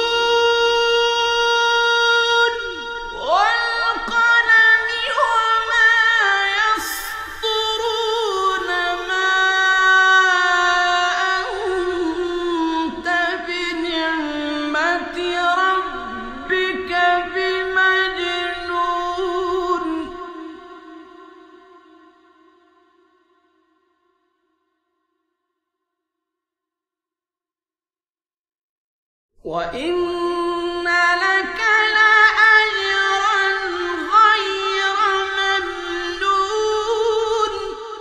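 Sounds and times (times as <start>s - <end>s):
man chanting: 0.0s - 23.2s, 29.5s - 38.0s.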